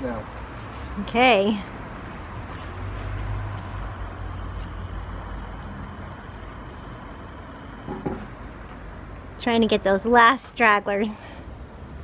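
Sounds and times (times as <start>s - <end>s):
vehicle passing: 0.0s - 9.9s
road traffic rumble: 0.0s - 12.0s.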